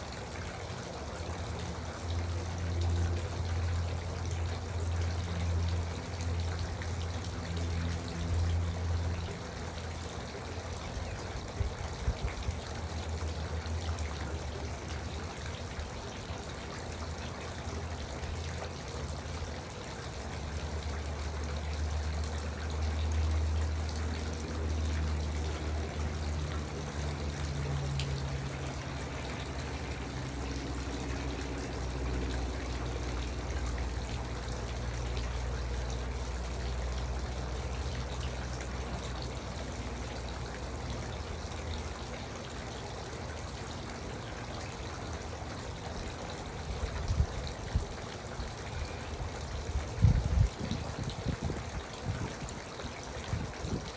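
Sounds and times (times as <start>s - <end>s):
fountain trickling and splashing: 0.0s - 53.9s.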